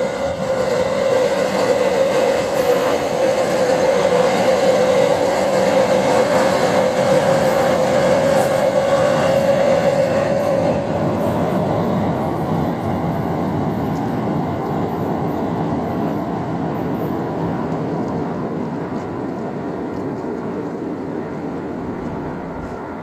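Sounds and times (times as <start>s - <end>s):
train running over bridge: 0.0s - 23.0s.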